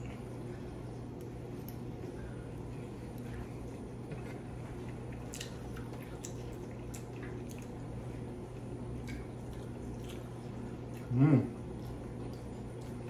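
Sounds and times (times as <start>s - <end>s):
low steady hum: 0.0s - 13.0s
people chewing wetly: 0.0s - 13.0s.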